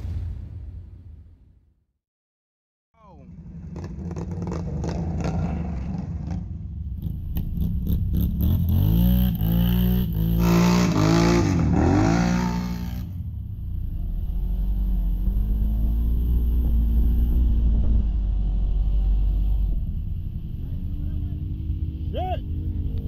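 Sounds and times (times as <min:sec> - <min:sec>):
atv engine revving: 0:03.4 - 0:23.0.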